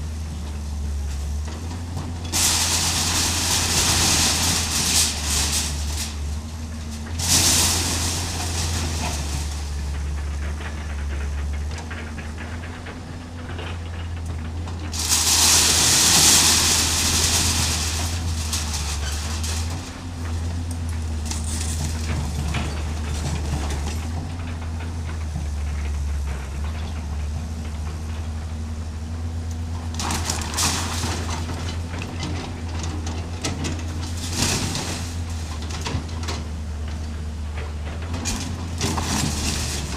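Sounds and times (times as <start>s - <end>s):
excavator diesel engine running: 0.0s - 39.9s
crashing and scraping of metal sheets: 1.8s - 25.9s, 29.9s - 37.0s, 37.6s - 39.9s.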